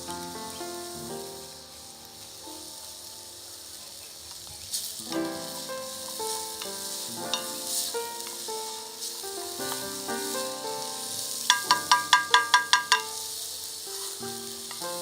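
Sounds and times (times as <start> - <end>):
background music with held notes: 0.0 - 4.3, 5.0 - 15.0
food frying sizzle: 0.0 - 15.0.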